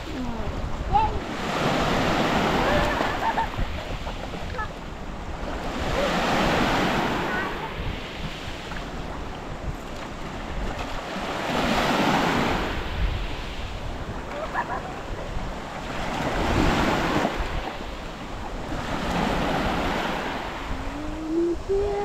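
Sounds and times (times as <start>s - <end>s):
small waves breaking on beach: 0.0s - 22.0s.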